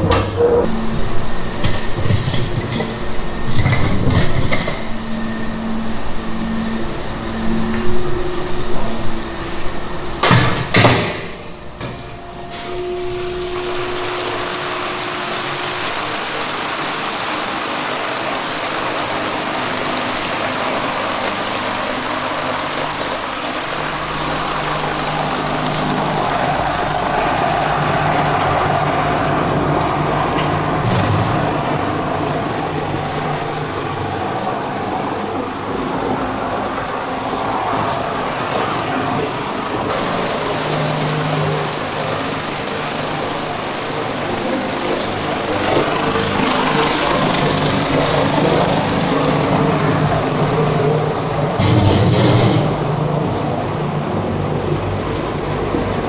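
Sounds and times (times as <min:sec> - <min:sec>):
bowl cutter machine grinding: 0:00.0 - 0:34.1, 0:39.4 - 0:54.2
low hum: 0:00.0 - 0:56.0.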